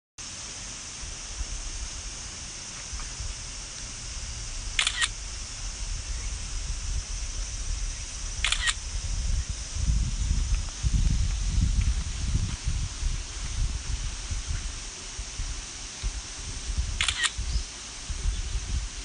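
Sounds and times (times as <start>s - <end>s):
low buffeting rumble: 0.2s - 19.0s.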